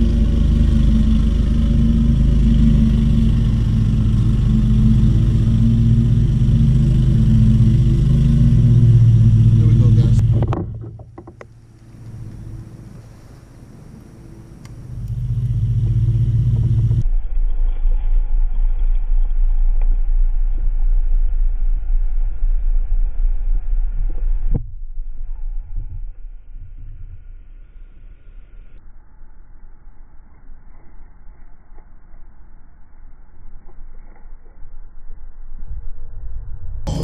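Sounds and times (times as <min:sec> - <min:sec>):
wind rumbling on microphone: 0:00.0 - 0:37.0.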